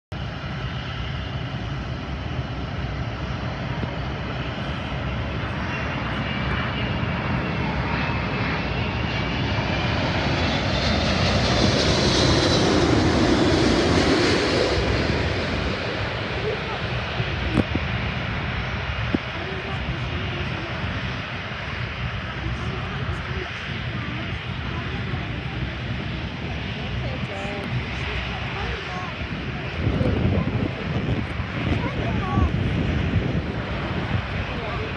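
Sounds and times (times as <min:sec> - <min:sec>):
jet airliner passing overhead: 0:00.2 - 0:34.9.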